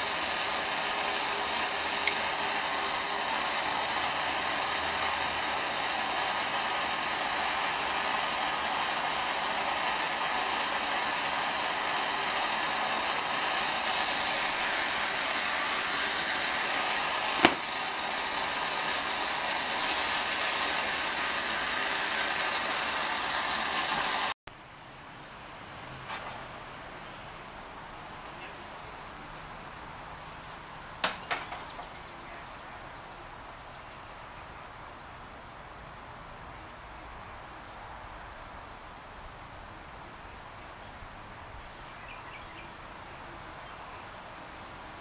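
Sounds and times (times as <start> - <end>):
fan-like rushing noise: 0.0 - 45.0.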